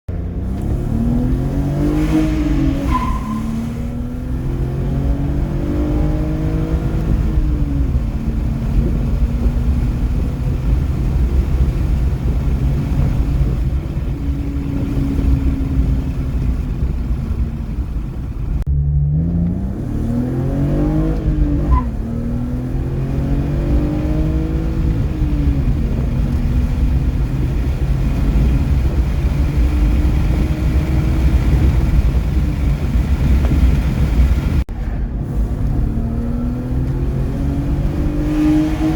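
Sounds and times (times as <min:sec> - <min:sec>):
car engine accelerating: 0:00.1 - 0:38.9
road and wind noise: 0:00.1 - 0:38.9.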